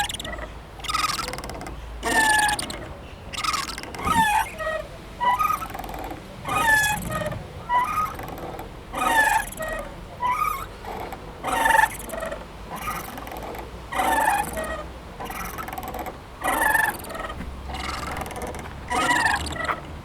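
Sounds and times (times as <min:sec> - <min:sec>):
playground swing squeaking: 0:00.0 - 0:20.0.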